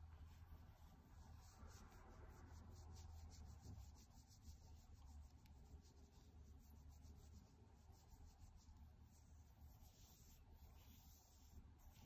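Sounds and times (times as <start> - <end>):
fingers rubbing animal fur: 0.3 - 12.0.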